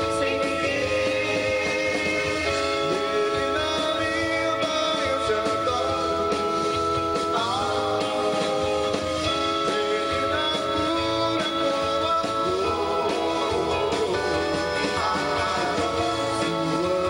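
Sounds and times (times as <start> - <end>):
live band playing amplified music: 0.0 - 17.0.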